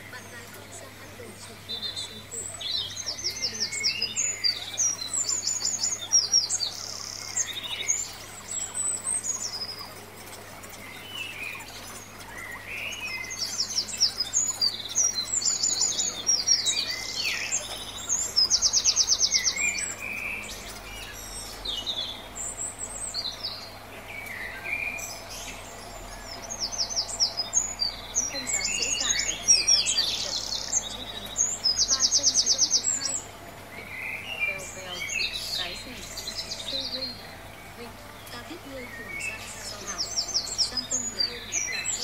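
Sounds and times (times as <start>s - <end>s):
bird trill: 0.0s - 42.0s
small birds chirping: 0.0s - 42.0s.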